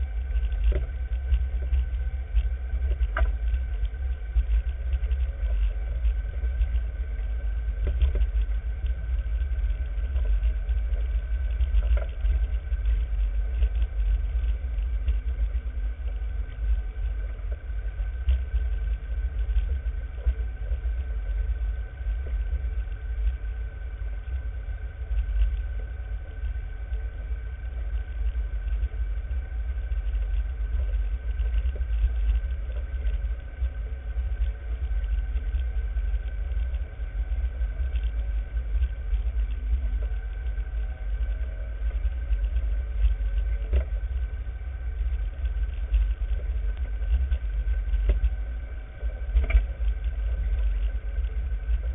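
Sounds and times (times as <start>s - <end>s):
faint steady whine: 0.0s - 51.9s
vehicle engine rumble: 0.0s - 51.9s.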